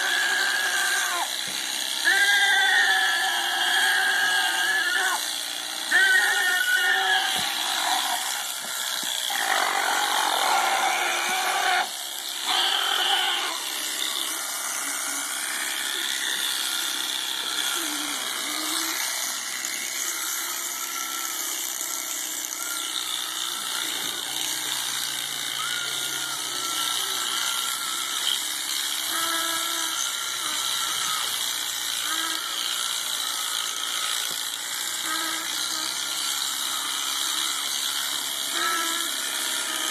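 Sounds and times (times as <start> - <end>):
electric clippers cutting fleece: 0.0 - 39.9.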